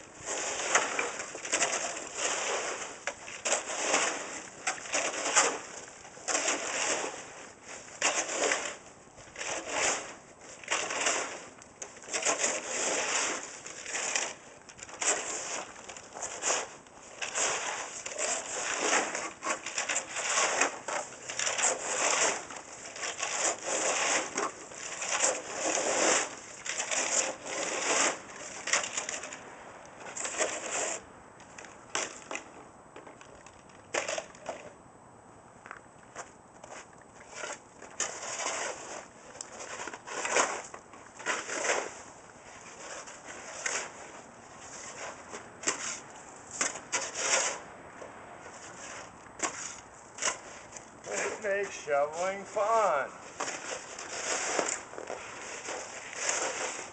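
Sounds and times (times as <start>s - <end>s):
snow shovel scraping icy snow: 0.0s - 29.4s, 30.0s - 31.0s, 36.8s - 47.7s, 48.4s - 56.9s.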